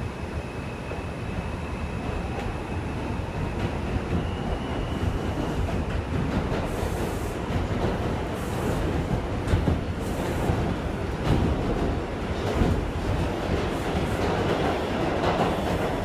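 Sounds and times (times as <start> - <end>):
subway wheels rumbling on track: 0.0 - 16.0.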